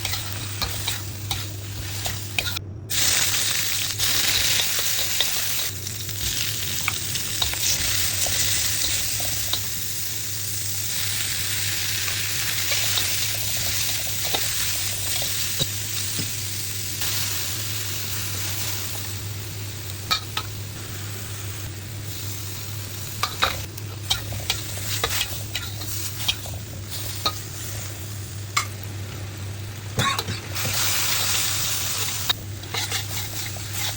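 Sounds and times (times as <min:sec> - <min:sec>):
noodles sizzling in a pan: 0:00.0 - 0:33.9.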